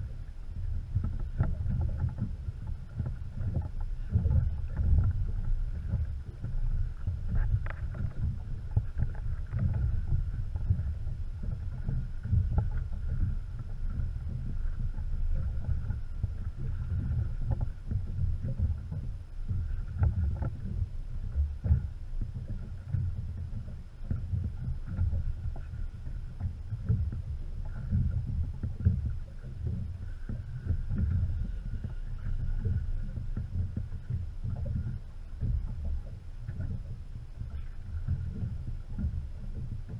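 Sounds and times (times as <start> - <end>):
wind and water against hull: 0.0 - 39.9.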